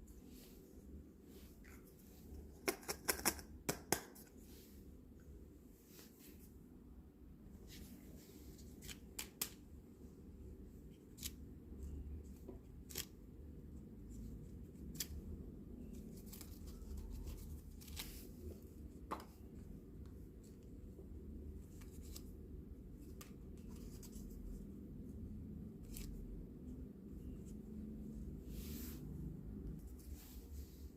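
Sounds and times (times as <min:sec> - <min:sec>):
faint low hum: 0:03.4 - 0:30.9.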